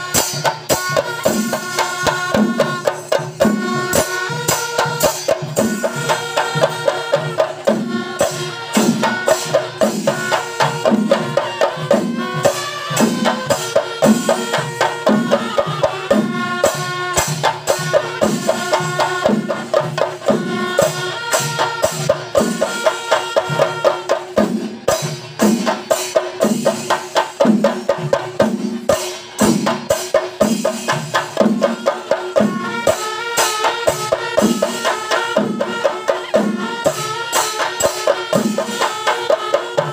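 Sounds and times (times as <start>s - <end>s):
drums beaten with sticks: 0.0s - 39.9s.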